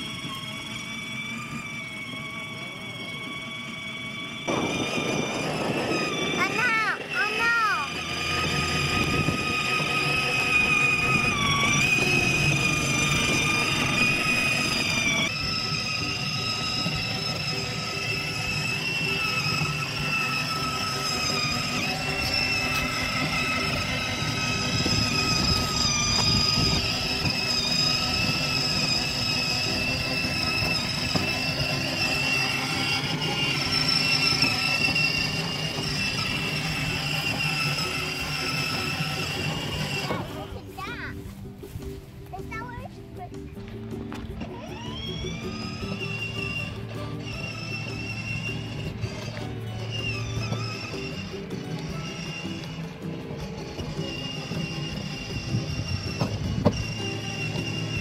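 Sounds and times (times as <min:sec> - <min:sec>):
electric motor whining: 0:00.0 - 0:42.3, 0:42.9 - 0:58.0
plastic wheels rumbling on concrete: 0:00.0 - 0:58.0.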